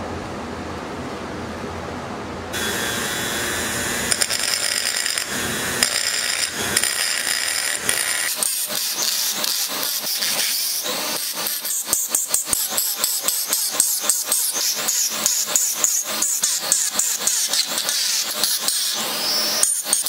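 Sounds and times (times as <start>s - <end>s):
steady high-pitched whine: 0.0s - 19.7s.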